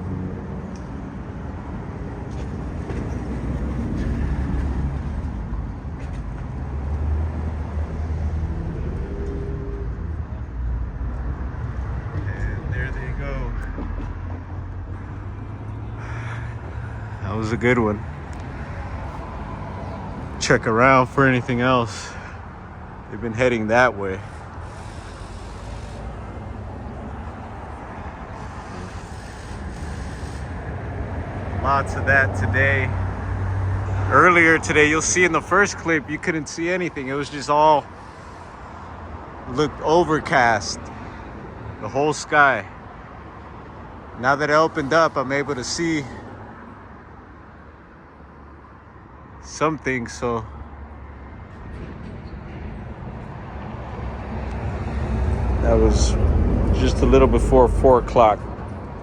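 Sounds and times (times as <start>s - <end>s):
low vehicle rumble: 0.0s - 47.2s, 48.9s - 59.0s
road traffic noise: 0.0s - 59.0s.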